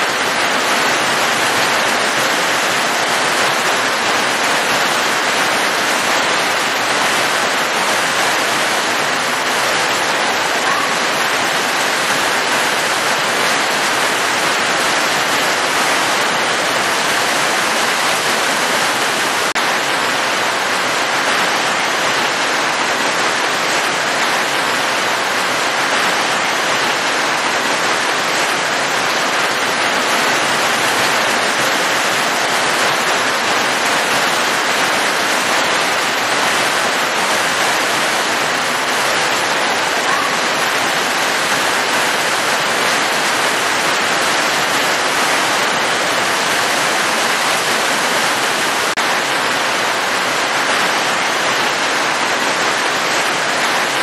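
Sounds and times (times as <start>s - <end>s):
heavy pouring rain: 0.0s - 54.0s.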